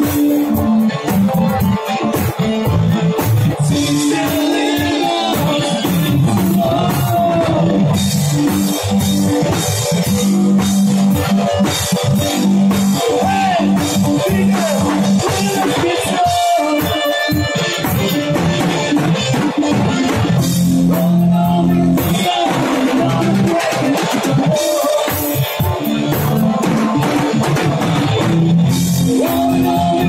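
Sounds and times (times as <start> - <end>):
drum kit beat: 0.0 - 30.0
electric guitars: 0.0 - 30.0.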